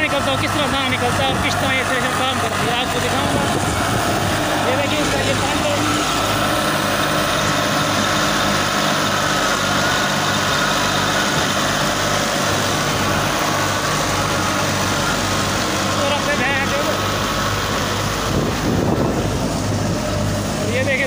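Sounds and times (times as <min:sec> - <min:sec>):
threshing machinery rushing: 0:00.0 - 0:21.0
tractor engine drone: 0:00.0 - 0:21.0.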